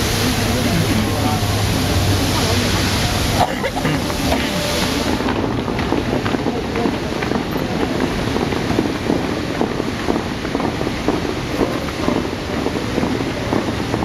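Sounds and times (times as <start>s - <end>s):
fountain jets splashing: 0.0s - 14.0s
wind buffeting microphone: 0.0s - 14.0s.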